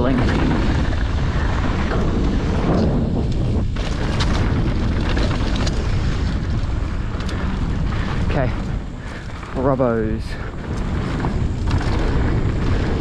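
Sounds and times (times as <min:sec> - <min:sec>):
bike rattles and knocks: 0:00.0 - 0:13.0
tyres rumbling on dirt: 0:00.0 - 0:13.0
wind buffeting microphone: 0:00.0 - 0:13.0.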